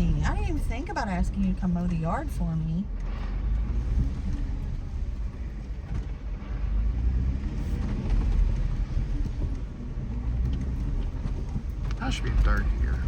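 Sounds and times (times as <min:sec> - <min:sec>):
engine and tyres rumbling on road: 0:00.0 - 0:13.0.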